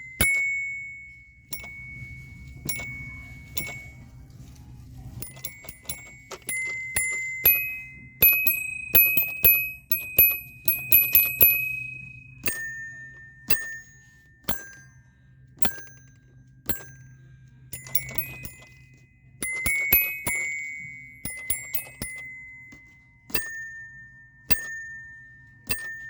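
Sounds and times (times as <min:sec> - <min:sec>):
small bell-like object tapped: 0:00.0 - 0:04.1, 0:05.2 - 0:26.0.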